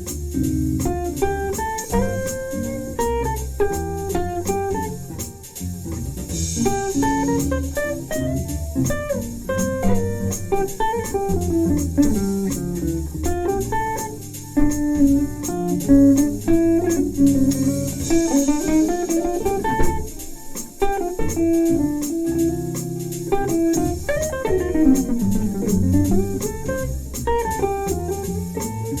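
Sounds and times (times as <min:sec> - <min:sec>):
jazz guitar melody: 0:00.0 - 0:29.0
walking bass: 0:00.0 - 0:29.0.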